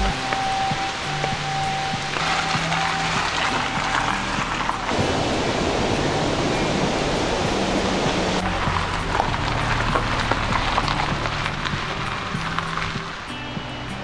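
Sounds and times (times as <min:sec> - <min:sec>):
background music low notes: 0:00.0 - 0:14.0
rushing water: 0:00.0 - 0:14.0.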